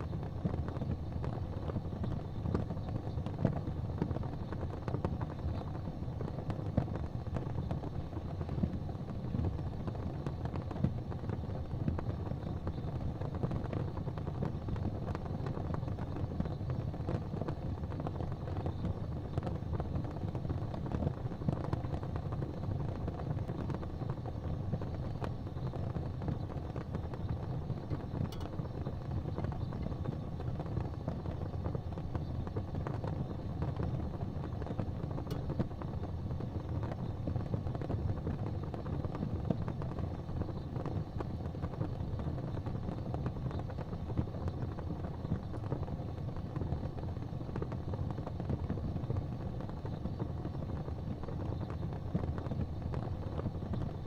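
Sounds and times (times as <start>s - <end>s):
fire pops: 0.0s - 54.0s
fireplace fire crackling: 0.0s - 54.0s.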